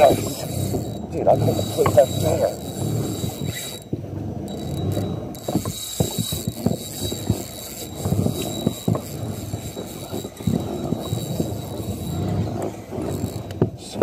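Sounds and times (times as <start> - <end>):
fishing reel cranking: 0.0 - 14.0.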